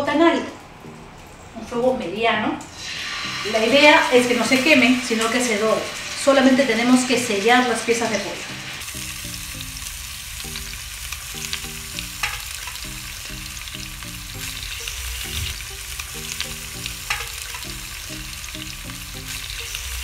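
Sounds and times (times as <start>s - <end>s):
light background music: 0.0s - 20.0s
chicken sizzling in hot oil: 2.8s - 20.0s.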